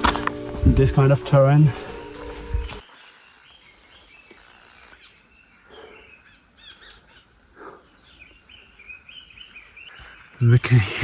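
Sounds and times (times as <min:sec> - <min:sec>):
small birds chirping: 0:01.6 - 0:11.0.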